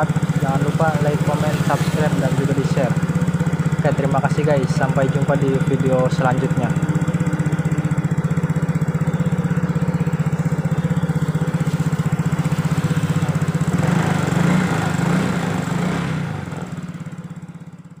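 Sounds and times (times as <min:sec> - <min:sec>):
scooter engine idling: 0:00.0 - 0:18.0.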